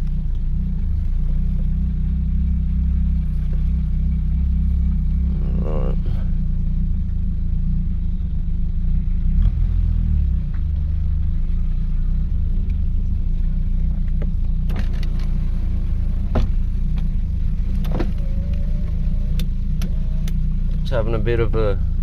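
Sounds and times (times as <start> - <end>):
car engine running with coughs: 0.0 - 9.7, 10.3 - 22.0.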